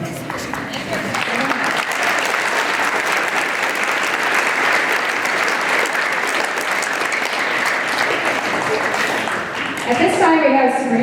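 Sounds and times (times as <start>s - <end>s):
large audience clapping: 0.0s - 10.4s.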